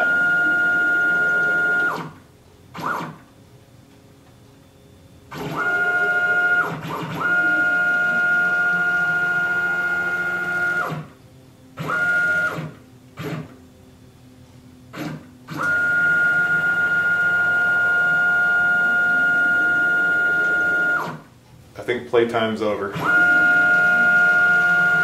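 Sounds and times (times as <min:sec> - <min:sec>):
stepper motor whine: 0:00.0 - 0:03.5, 0:04.5 - 0:21.3, 0:22.8 - 0:25.0.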